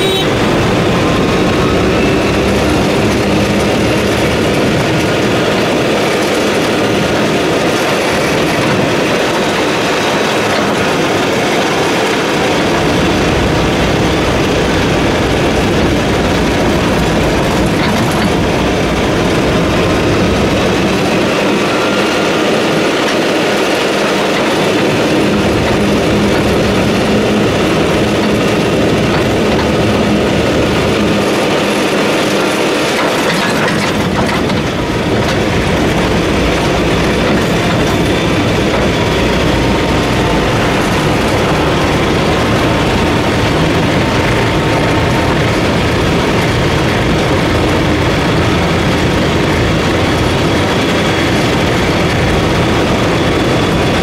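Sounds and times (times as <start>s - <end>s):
moving vehicle running noise: 0.0s - 54.0s.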